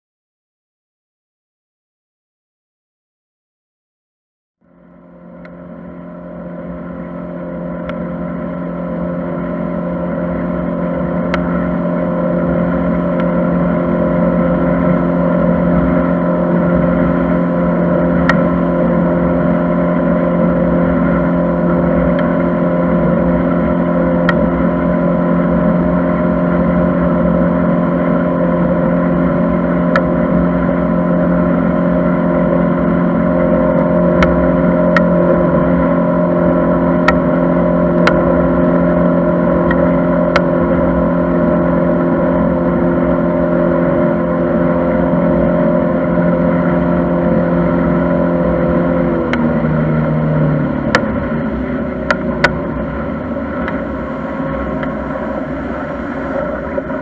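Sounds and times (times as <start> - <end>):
boat engine droning: 4.6 - 57.0.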